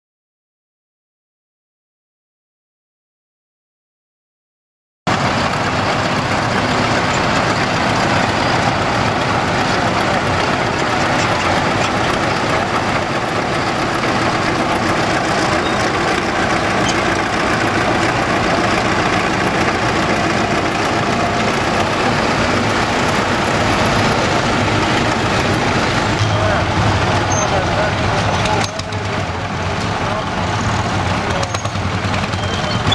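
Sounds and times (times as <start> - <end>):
tractor diesel engines running: 5.1 - 32.9.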